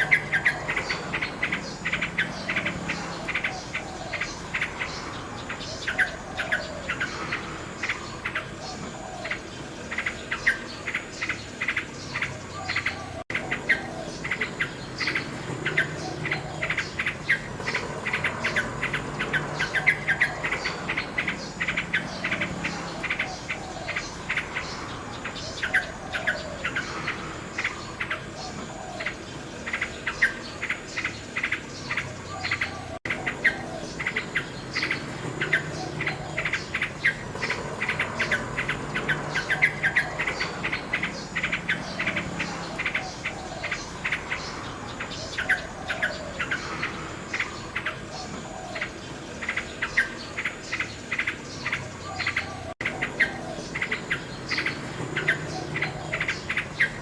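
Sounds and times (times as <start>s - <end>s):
nightingale song: 0.0s - 57.0s.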